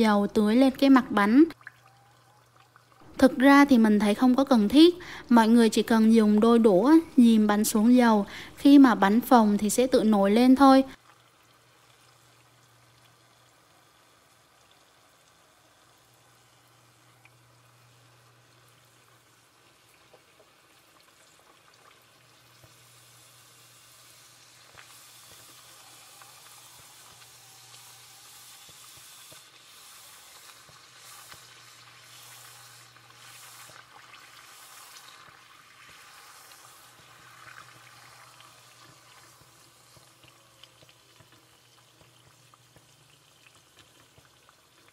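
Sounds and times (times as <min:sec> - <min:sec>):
dough sizzling in hot oil: 0:00.0 - 0:44.9.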